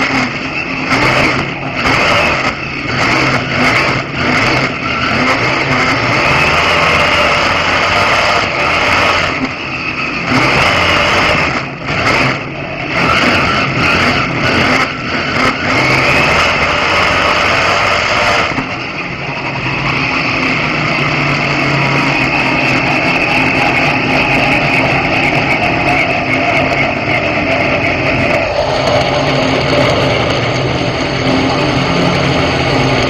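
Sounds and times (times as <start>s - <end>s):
race car engine roaring: 0.0s - 33.0s
road and wind noise: 0.0s - 33.0s.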